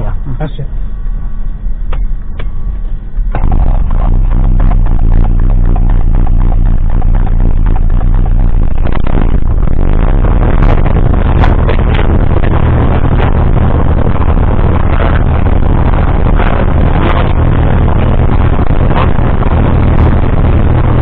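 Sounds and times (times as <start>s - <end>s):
aircraft piston engine idling: 0.3s - 20.8s.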